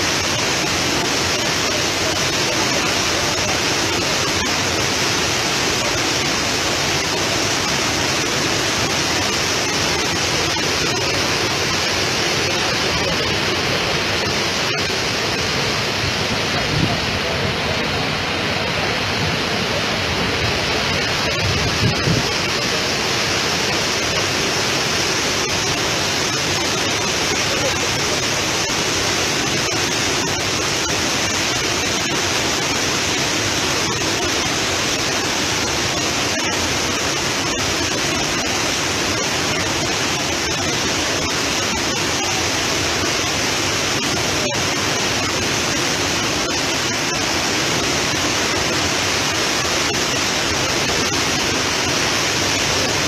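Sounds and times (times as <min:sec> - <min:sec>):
floodwater rushing over waterfall: 0:00.0 - 0:53.0.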